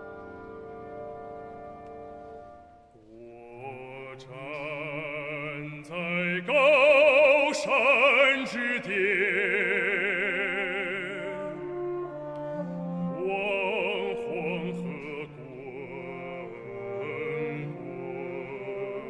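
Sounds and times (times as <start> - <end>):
symphony orchestra playing: 0.0 - 3.0, 4.2 - 19.0.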